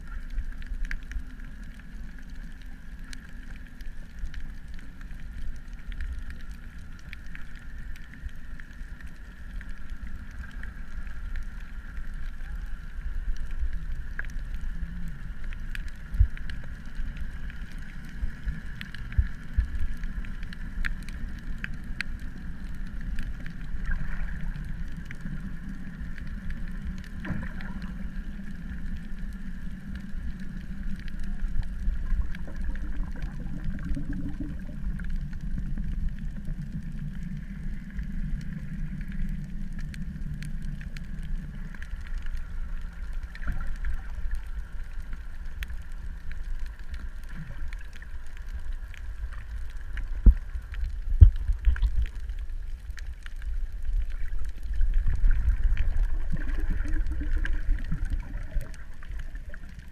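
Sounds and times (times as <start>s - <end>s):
small clicks: 0.1s - 59.9s.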